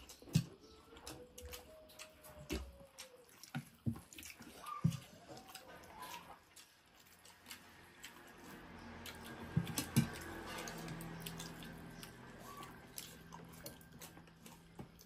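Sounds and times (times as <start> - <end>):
chewing mouth smacks: 0.0 - 15.0.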